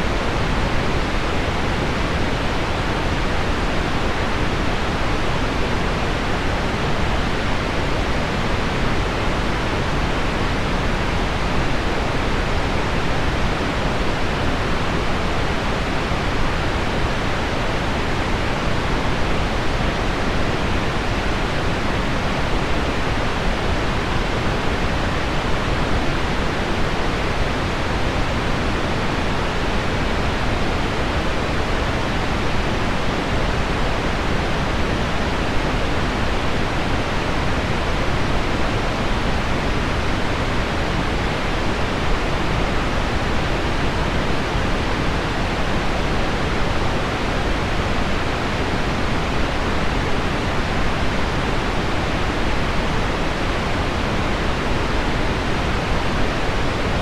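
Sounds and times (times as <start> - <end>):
pink noise: 0.0 - 57.0.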